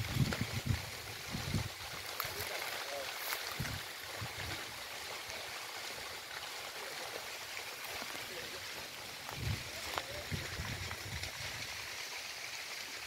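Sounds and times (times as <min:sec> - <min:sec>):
fire hissing and crackling: 0:00.0 - 0:13.0.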